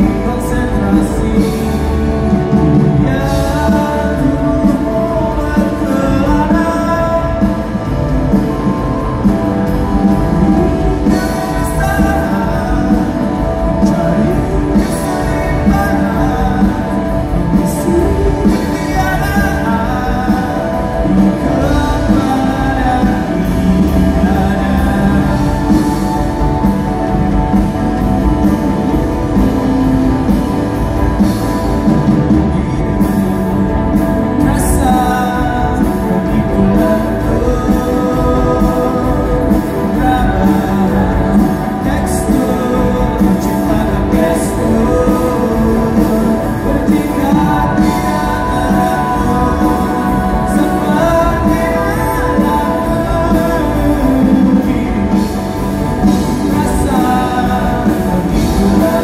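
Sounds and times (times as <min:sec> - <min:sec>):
person singing: 0:00.0 - 0:59.0
rock band playing live: 0:00.0 - 0:59.0.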